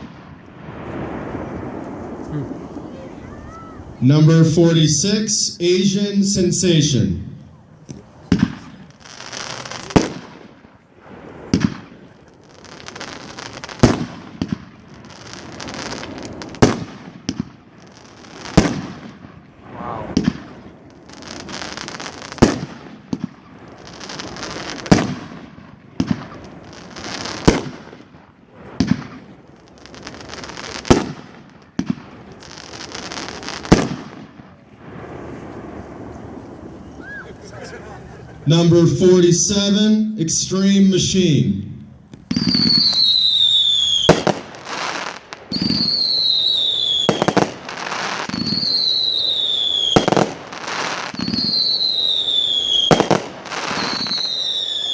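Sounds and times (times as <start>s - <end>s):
weaker firework pops: 0.0s - 3.0s, 7.4s - 37.0s, 41.8s - 54.9s
firework hissing: 0.0s - 4.1s, 7.5s - 38.5s, 42.0s - 54.9s
firework cake loud reports: 0.0s - 54.9s.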